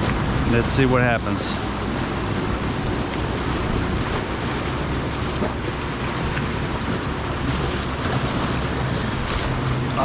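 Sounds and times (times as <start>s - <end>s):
surf and waves: 0.0s - 10.0s
wind buffeting the microphone: 0.0s - 10.0s.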